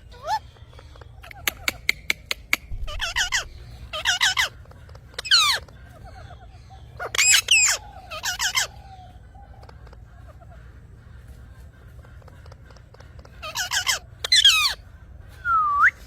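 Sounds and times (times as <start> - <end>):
parrot squawking: 0.0 - 2.0, 2.6 - 11.0, 11.6 - 14.9.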